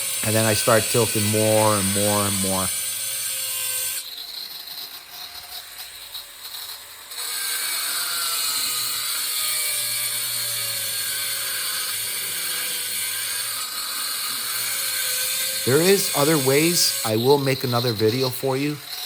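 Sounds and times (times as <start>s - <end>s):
angle grinder cutting tile: 0.0s - 19.0s.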